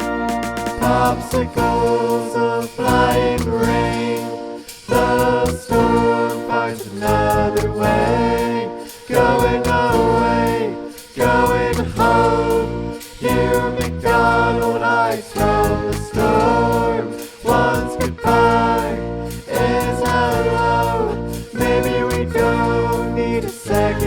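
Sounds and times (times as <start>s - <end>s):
electronic music with choir vocals: 0.0s - 24.0s.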